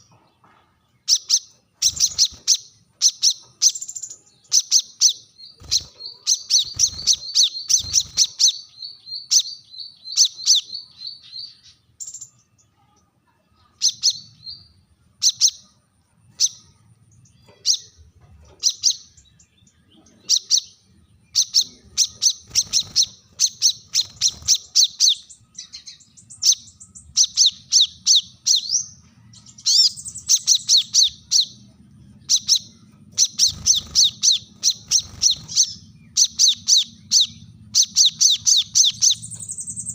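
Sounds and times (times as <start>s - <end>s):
bird chirping sharply: 1.0s - 12.8s, 13.6s - 39.9s.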